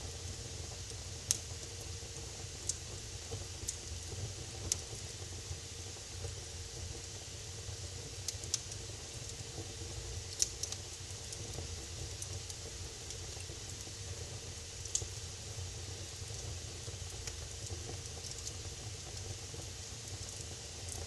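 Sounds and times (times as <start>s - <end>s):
fire rumbling and hissing: 0.0s - 21.0s
fire crackling and popping: 0.2s - 21.0s.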